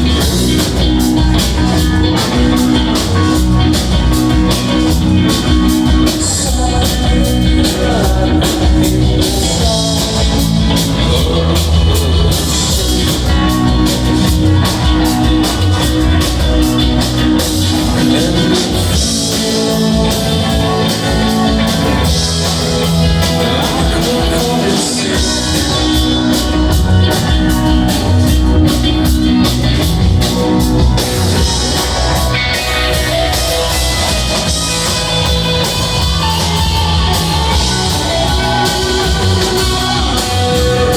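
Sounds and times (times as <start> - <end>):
drum kit beat: 0.0 - 40.9
electric guitars: 0.0 - 40.9.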